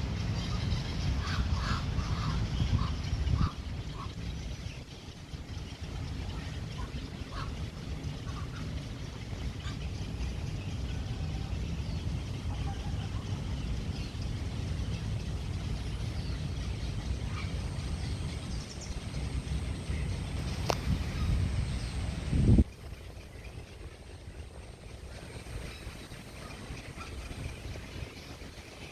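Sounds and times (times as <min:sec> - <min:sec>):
bird calls and chirps: 0:00.0 - 0:28.9.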